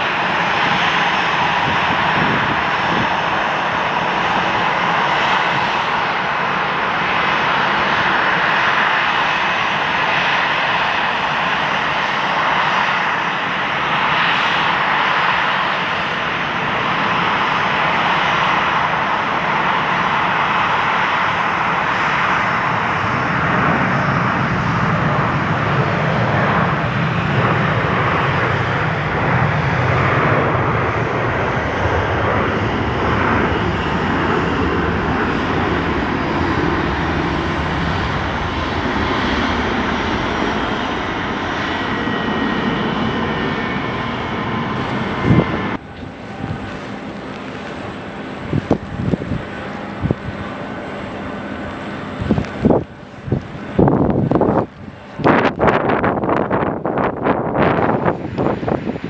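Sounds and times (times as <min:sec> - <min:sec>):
airliner engines roaring: 0:00.0 - 0:59.0.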